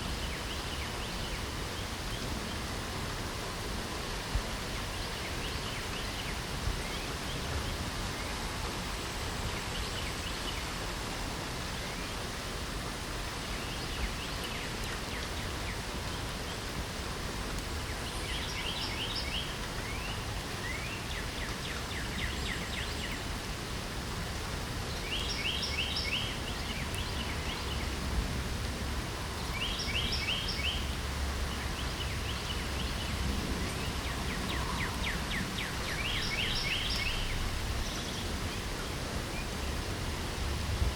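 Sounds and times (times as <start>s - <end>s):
songbird singing: 0.0s - 2.8s, 4.2s - 10.8s, 13.3s - 16.9s, 17.6s - 23.5s, 24.8s - 28.5s, 29.2s - 40.5s
steady rain: 0.0s - 40.9s.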